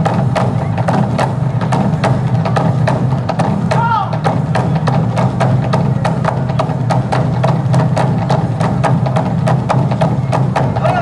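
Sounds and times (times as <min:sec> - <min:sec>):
barrel drum beaten with sticks: 0:00.0 - 0:11.0
deep drum rumble: 0:00.0 - 0:11.0.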